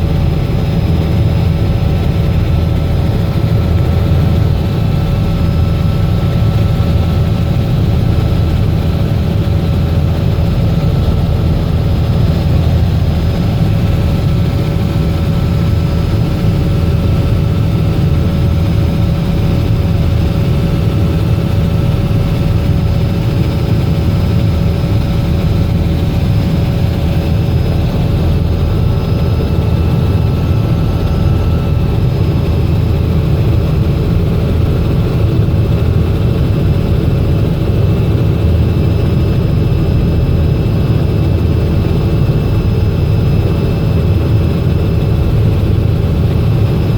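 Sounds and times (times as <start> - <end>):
helicopter rotor rumble: 0.0 - 46.9.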